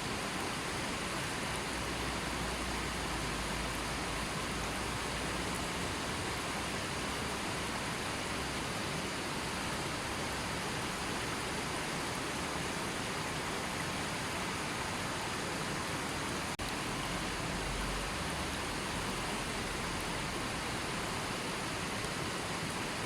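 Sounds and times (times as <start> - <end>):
river flowing: 0.0 - 23.0.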